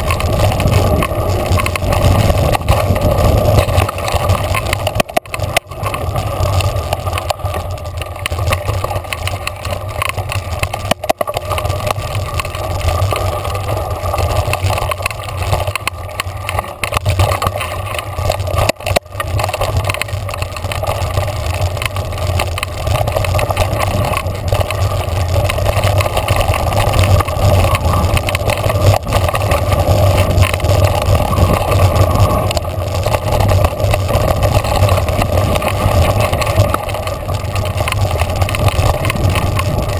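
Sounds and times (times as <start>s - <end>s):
bike rattling over bumps: 0.0s - 39.9s
tyres rumbling on dirt: 0.0s - 39.9s.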